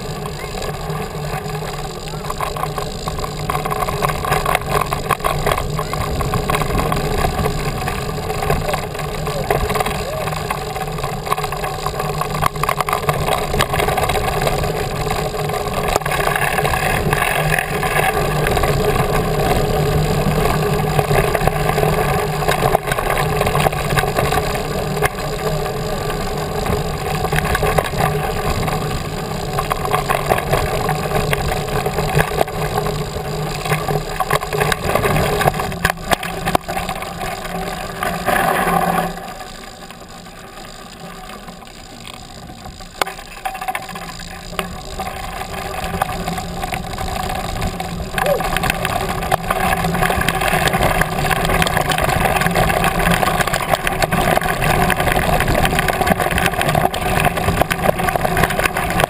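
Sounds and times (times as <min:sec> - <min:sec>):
bicycle clattering over gravel: 0:00.0 - 0:59.0.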